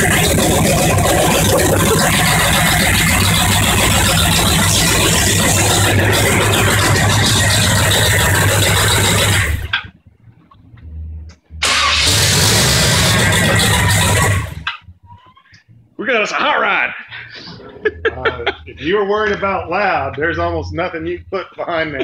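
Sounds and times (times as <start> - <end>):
unmuffled engine rumbling: 0.0 - 16.0, 17.1 - 22.0.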